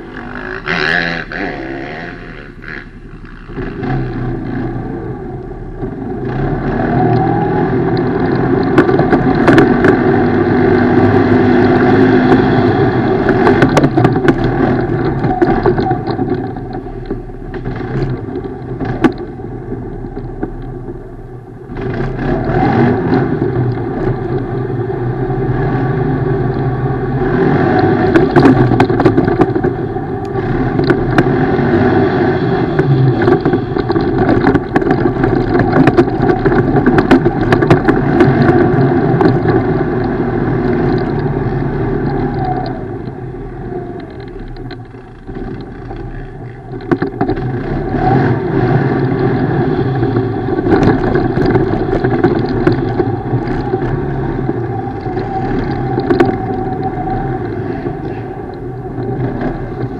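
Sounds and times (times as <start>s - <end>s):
atv engine revving: 0.0s - 59.9s
knocks and clatters: 5.8s - 21.1s, 26.2s - 43.3s, 43.9s - 59.9s.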